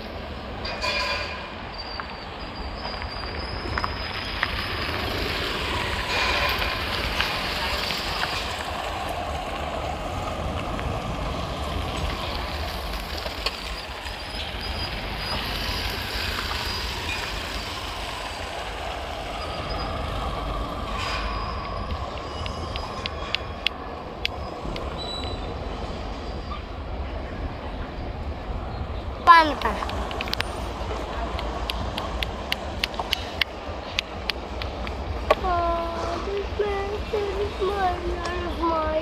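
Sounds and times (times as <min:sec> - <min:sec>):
traffic rumble: 0:00.0 - 0:39.0.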